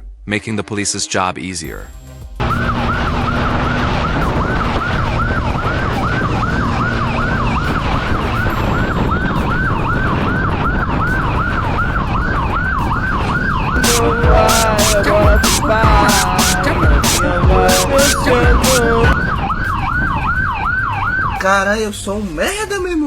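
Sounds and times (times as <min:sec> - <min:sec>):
police siren yelping: 0:02.4 - 0:21.4
traffic and wind rushing: 0:02.4 - 0:22.6.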